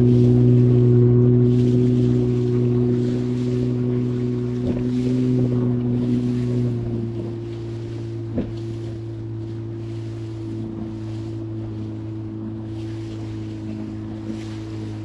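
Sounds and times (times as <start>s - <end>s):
outboard motor running: 0.0s - 15.0s
water noise: 0.0s - 15.0s
wind: 0.0s - 15.0s.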